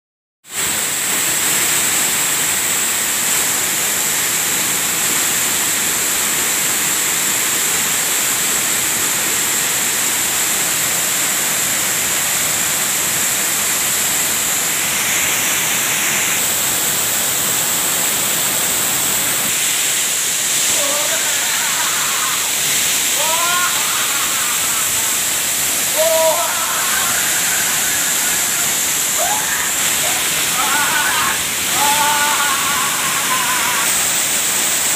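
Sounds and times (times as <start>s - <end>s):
waterfall pouring onto rocks: 0.5s - 34.9s.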